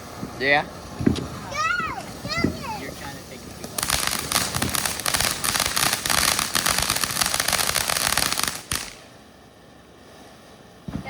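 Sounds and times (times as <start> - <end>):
firework crackling: 0.0 - 9.3
firework hiss: 0.0 - 9.3.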